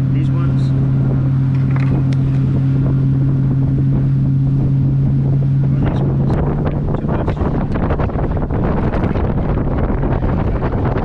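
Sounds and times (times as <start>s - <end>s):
motorboat engine humming: 0.0s - 11.0s
water noise: 0.0s - 11.0s
wind buffeting microphone: 0.0s - 11.0s.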